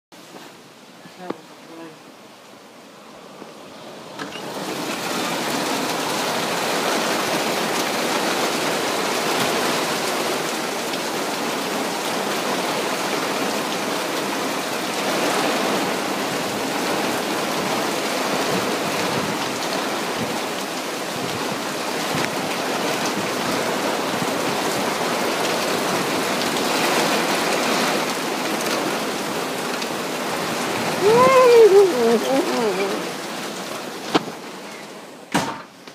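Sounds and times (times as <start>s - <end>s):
torrential rain pouring: 0.2s - 35.9s.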